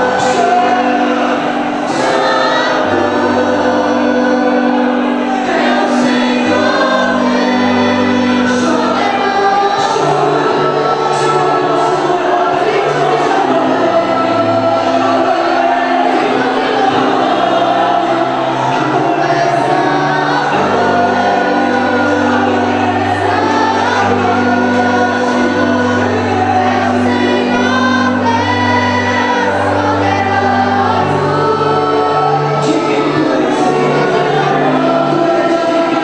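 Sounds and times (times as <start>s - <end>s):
choir singing gospel: 0.0s - 36.0s
held bass notes: 0.0s - 36.0s
instrumental accompaniment: 0.0s - 36.0s.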